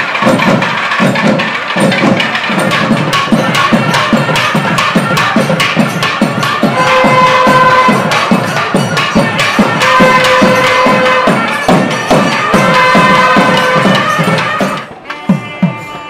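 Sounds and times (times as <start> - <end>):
rapid drum strokes: 0.0 - 16.0.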